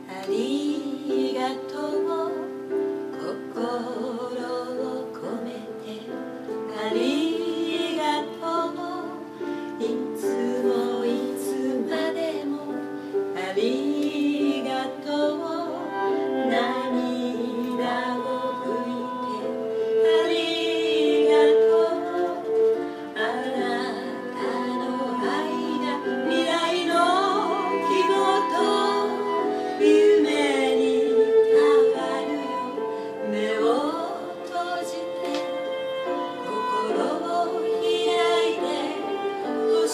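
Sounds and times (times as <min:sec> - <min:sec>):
instrumental accompaniment: 0:00.0 - 0:39.9
person singing with vibrato: 0:00.0 - 0:39.9.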